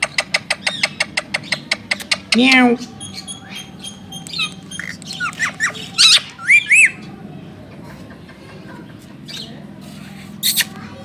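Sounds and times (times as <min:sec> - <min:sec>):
parakeets chattering and squawking: 0:00.0 - 0:11.0.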